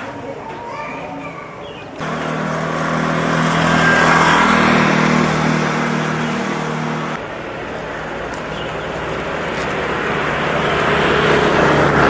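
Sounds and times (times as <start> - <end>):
motor vehicle passing: 2.0 - 12.0.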